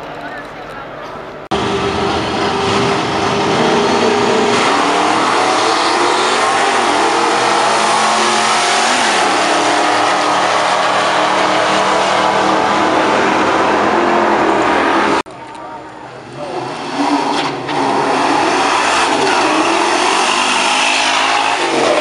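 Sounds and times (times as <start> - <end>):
car engine accelerating hard: 1.5 - 15.3, 16.2 - 22.0.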